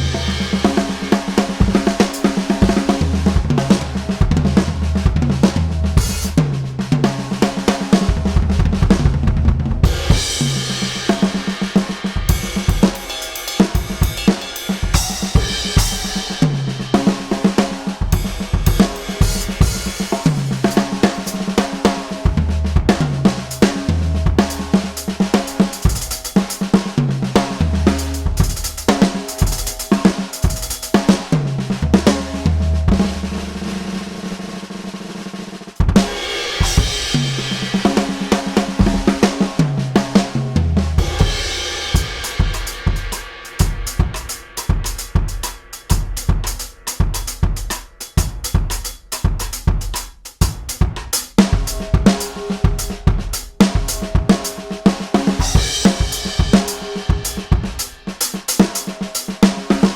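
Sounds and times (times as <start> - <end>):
drum kit groove: 0.0 - 59.9.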